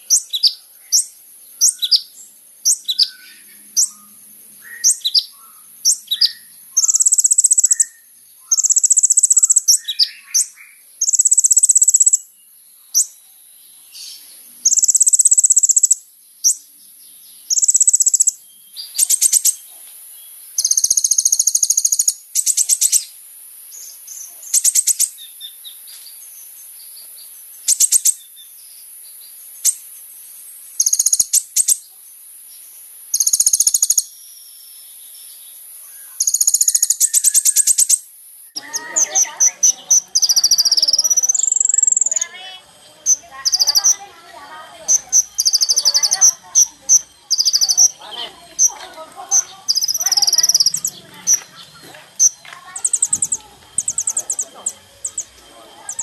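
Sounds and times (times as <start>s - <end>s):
sunbird singing: 0.0s - 56.0s.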